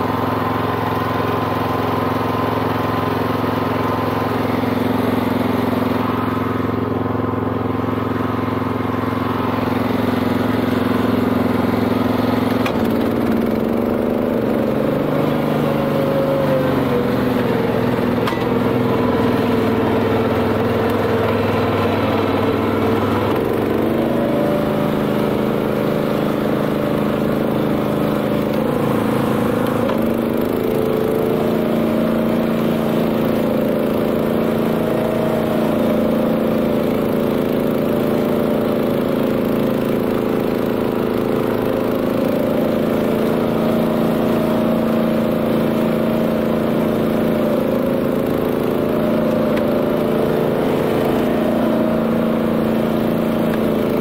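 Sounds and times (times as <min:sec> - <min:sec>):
petrol engine running: 0:00.0 - 0:54.0.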